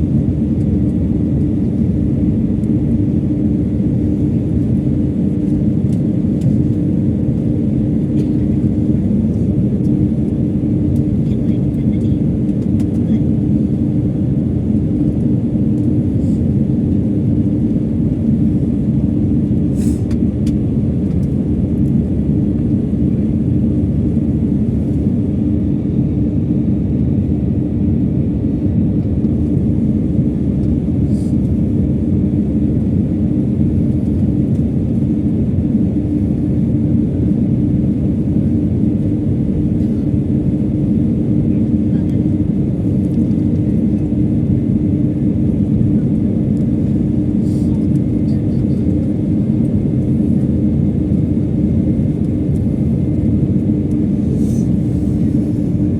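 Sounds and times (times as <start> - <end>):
jet cabin engine rumble: 0.0 - 55.9.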